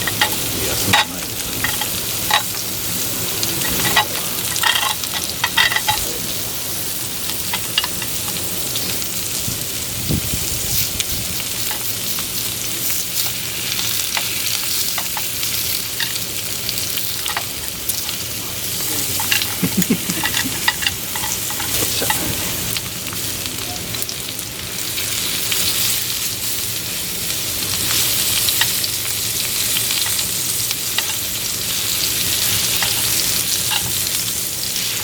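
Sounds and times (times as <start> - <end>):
steak sizzling and crackling: 0.0 - 35.0.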